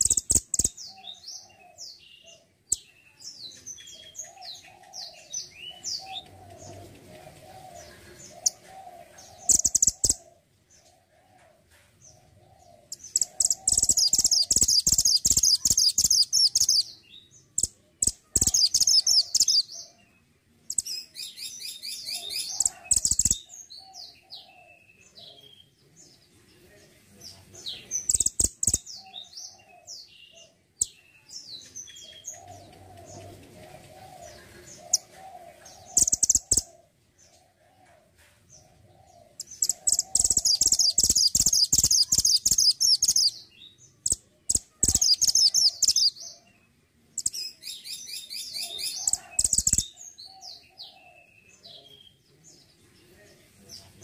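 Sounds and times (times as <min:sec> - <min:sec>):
bird chirping and chattering song: 0:00.0 - 0:54.0.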